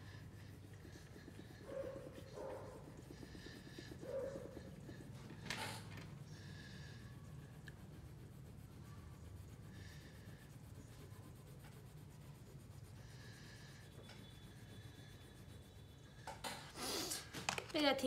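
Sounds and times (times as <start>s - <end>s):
crayon scratching on paper: 0.0s - 17.1s.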